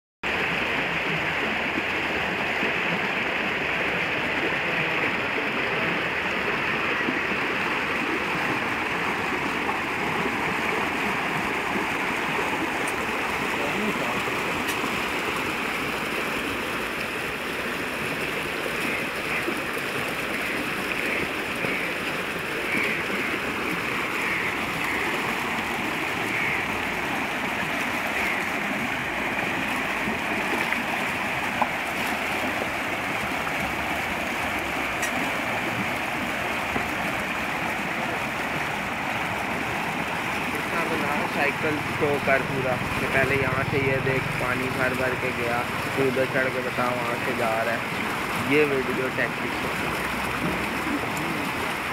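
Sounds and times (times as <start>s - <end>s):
water rushing through wheel buckets: 0.2s - 51.9s.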